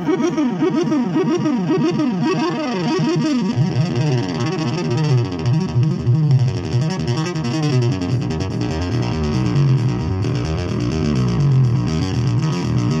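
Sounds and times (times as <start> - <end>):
heavy bass line: 0.0 - 13.0
music through speakers: 0.0 - 13.0.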